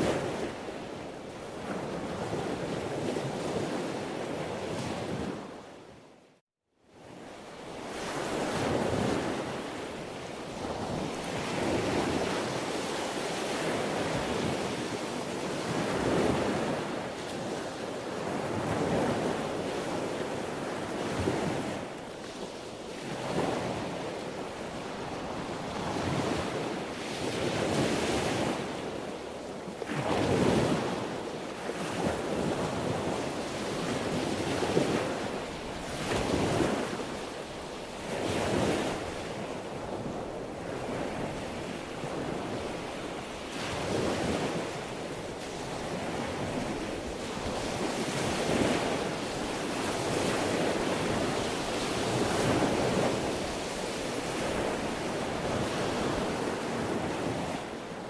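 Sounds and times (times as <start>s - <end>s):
sea waves breaking ashore: 7.4s - 58.0s.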